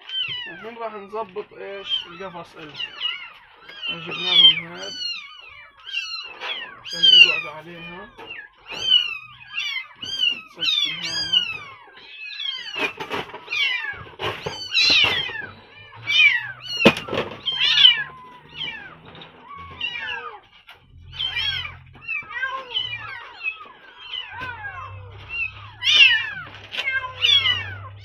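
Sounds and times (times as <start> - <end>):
kittens mewing: 0.0 - 28.0.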